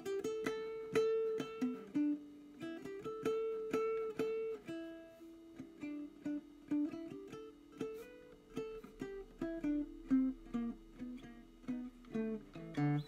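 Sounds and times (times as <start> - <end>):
classical guitar plucked melody: 0.0 - 13.0.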